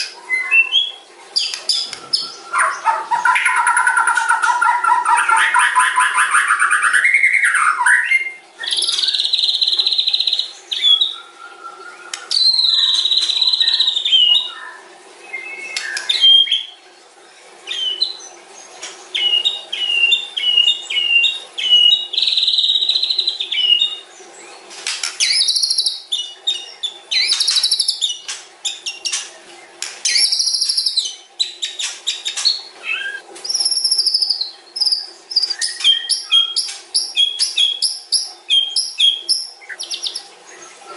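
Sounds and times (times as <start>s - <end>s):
songbird singing whistles and trills: 0.2s - 16.8s, 17.7s - 18.4s, 19.1s - 24.1s, 25.2s - 29.2s, 30.0s - 40.9s.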